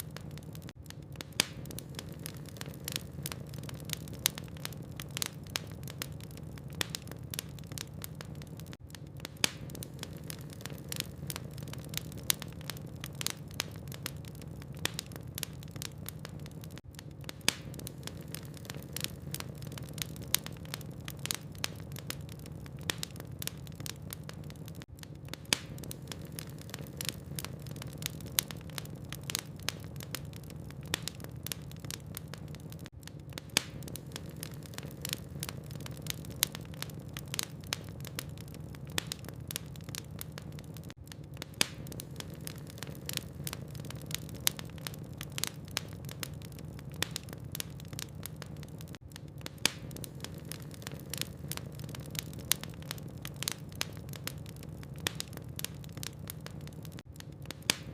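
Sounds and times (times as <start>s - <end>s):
low fire background: 0.0s - 57.9s
wood fire crackling and popping: 0.0s - 57.9s.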